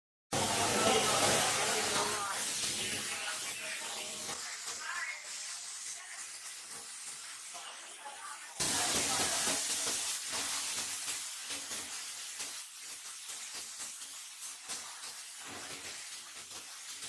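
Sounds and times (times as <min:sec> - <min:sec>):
spray gun hissing: 0:00.4 - 0:17.0.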